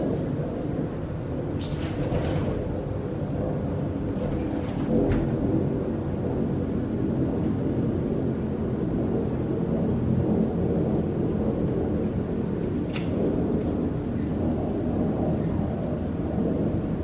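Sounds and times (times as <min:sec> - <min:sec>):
airplane engines rumbling overhead: 0:00.0 - 0:17.0.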